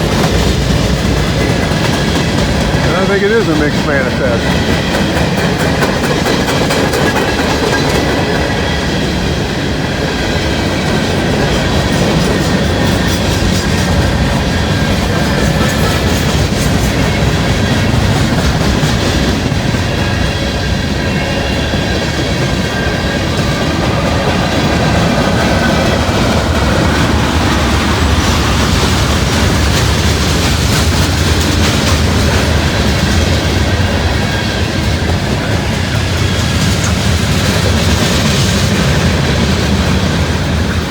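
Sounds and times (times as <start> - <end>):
steel wheels clattering on rails: 0.0 - 40.9.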